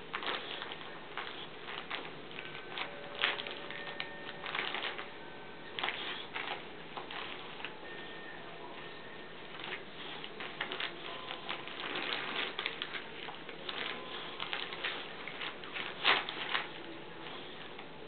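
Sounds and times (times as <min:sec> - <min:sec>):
wrapping paper crinkling and tearing: 0:00.0 - 0:08.0, 0:09.4 - 0:18.0.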